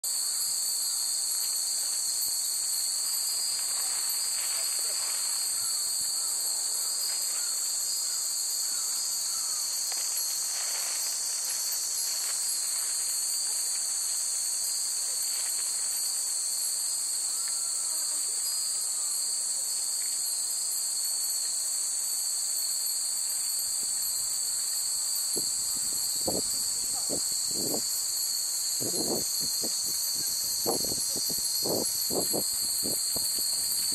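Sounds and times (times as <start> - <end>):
insects droning: 0.0 - 33.9
glass wind chimes tinkling: 0.2 - 33.9.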